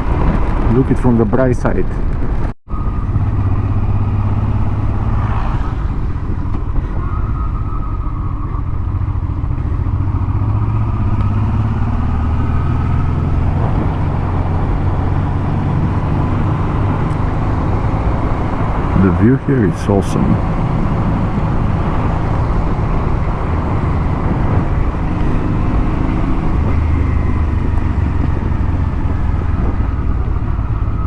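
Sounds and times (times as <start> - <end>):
motorcycle engine running: 5.8 - 31.0.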